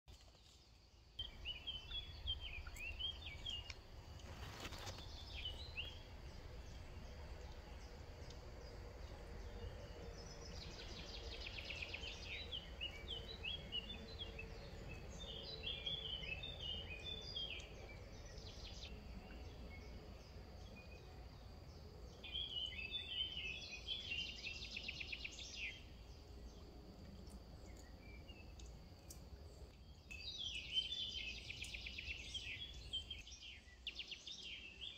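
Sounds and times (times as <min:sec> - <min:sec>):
songbirds chirping: 0:00.1 - 0:34.9
low background rumble: 0:01.2 - 0:30.7.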